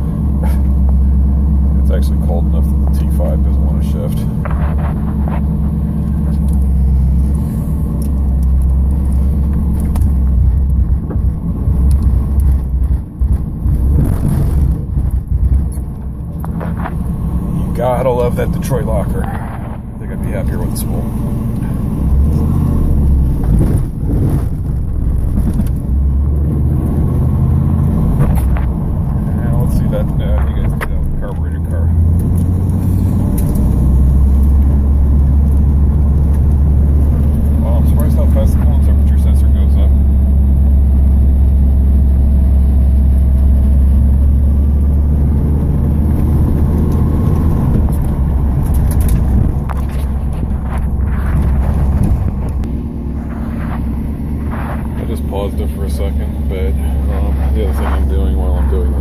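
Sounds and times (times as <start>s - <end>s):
car engine droning from cabin: 0.0s - 59.0s.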